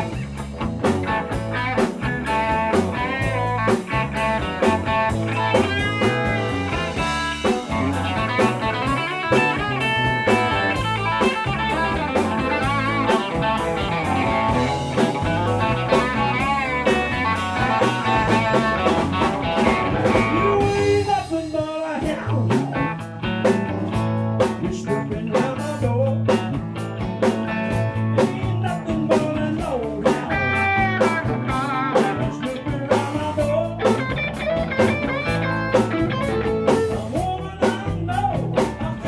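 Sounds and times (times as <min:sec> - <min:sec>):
lead guitar bending notes: 0:00.0 - 0:21.4, 0:26.0 - 0:38.6
blues-rock band playing: 0:00.0 - 0:39.0.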